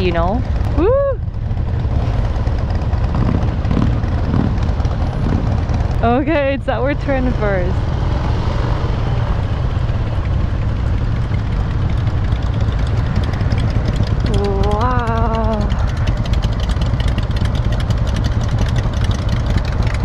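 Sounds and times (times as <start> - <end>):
motorcycle engines idling: 0.0 - 20.0.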